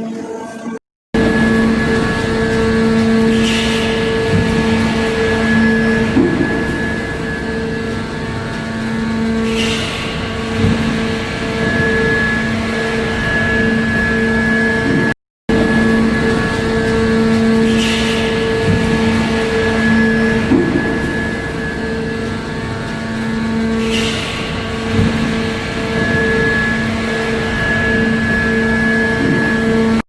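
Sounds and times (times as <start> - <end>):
heavy factory machinery humming: 0.0 - 30.0.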